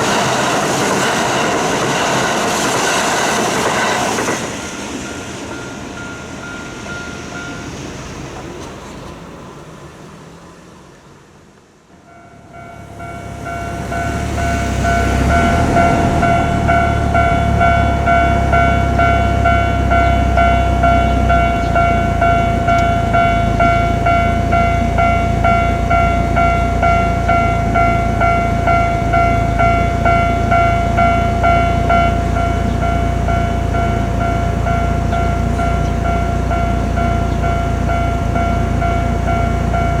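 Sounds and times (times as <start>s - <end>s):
level-crossing warning bell: 0.0s - 9.4s, 11.9s - 40.0s
train rumble: 0.0s - 40.0s.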